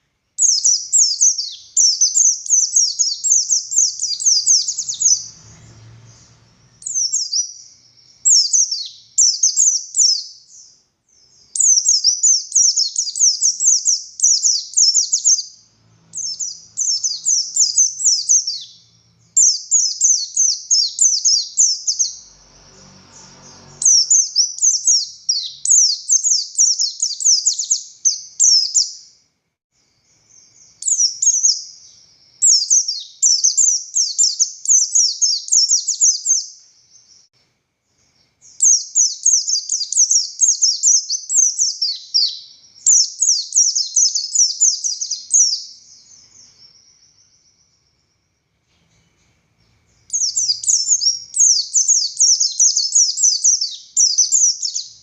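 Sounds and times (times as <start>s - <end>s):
bird twittering song: 0.0s - 29.2s, 29.8s - 55.0s.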